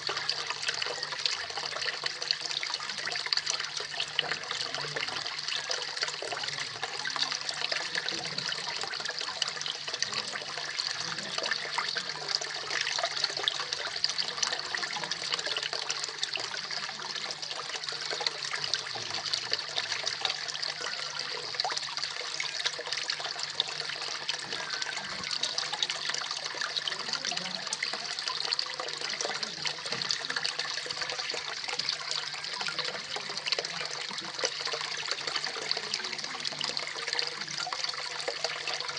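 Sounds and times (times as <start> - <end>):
water splashing into pond: 0.0 - 38.9.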